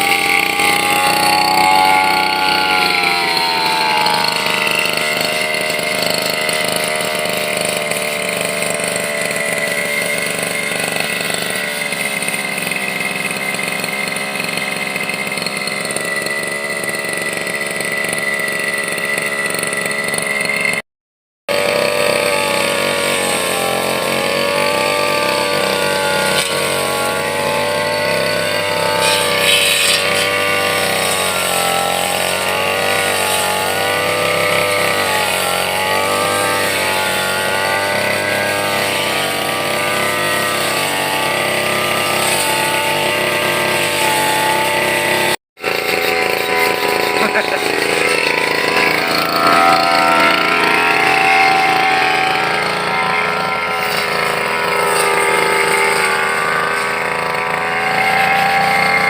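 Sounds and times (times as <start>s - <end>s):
brush cutter engine running: 0.0s - 20.8s, 21.5s - 59.0s.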